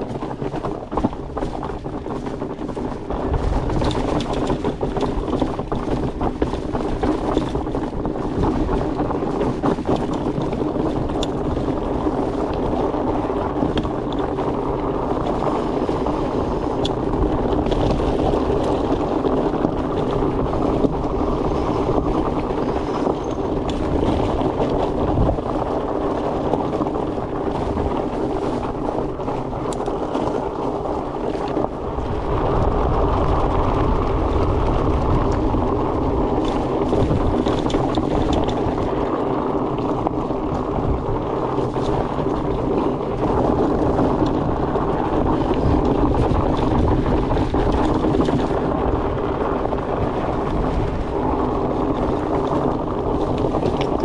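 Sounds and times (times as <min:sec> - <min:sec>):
bike tyres rolling on dirt: 0:00.0 - 0:54.0
wind on microphone: 0:00.0 - 0:54.0.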